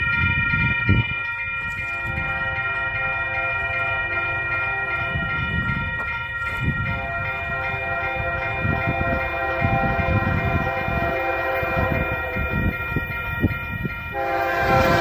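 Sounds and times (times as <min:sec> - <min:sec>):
crossing bell ringing: 0:00.0 - 0:15.0
train rumbling: 0:00.0 - 0:15.0.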